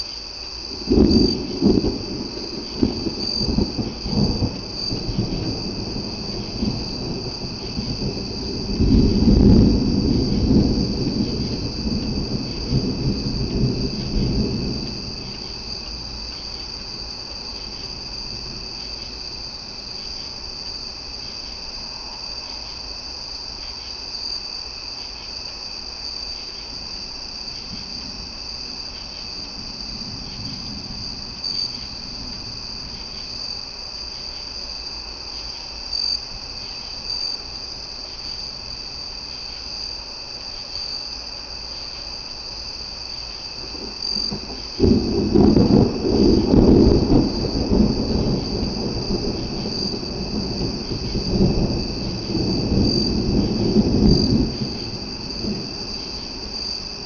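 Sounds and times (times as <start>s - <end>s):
crickets chirping: 0.0s - 57.0s
rolling thunder: 0.5s - 22.4s, 26.7s - 39.9s, 42.7s - 57.0s.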